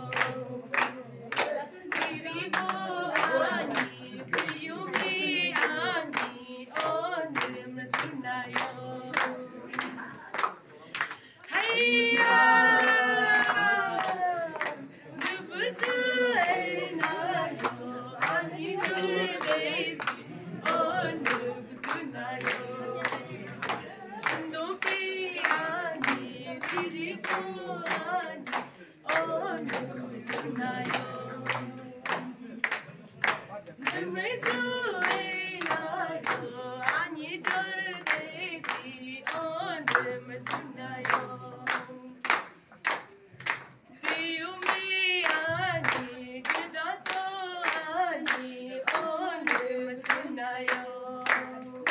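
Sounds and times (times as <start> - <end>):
group of voices singing: 0.0 - 51.9
hand-clapping on the beat: 0.0 - 51.9.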